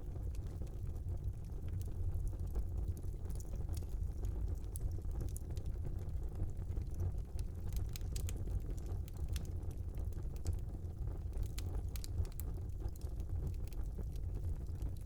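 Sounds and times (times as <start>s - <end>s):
fire crackling in fireplace: 0.0s - 15.0s
low rumble of fire: 0.0s - 15.0s.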